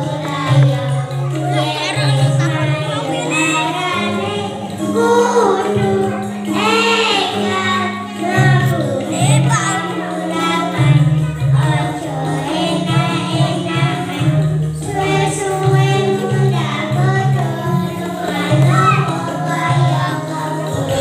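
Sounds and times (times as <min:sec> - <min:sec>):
girl singing into a microphone: 0:00.0 - 0:21.0
instrumental accompaniment: 0:00.0 - 0:21.0.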